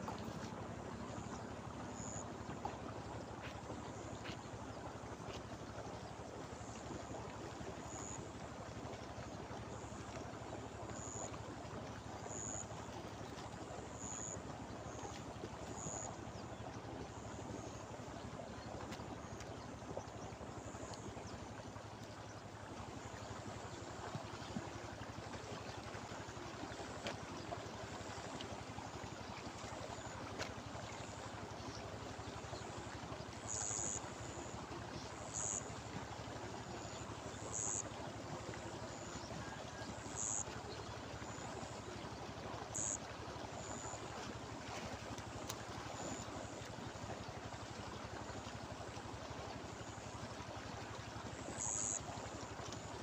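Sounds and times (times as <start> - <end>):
water rushing through shallows: 0.0 - 53.0.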